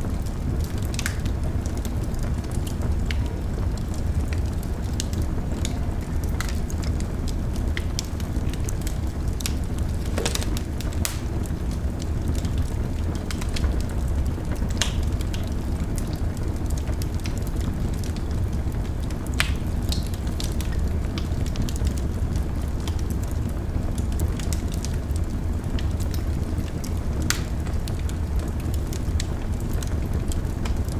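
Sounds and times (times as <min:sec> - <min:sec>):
fire crackling and popping: 0:00.0 - 0:30.9
fire rumbling: 0:00.0 - 0:30.9.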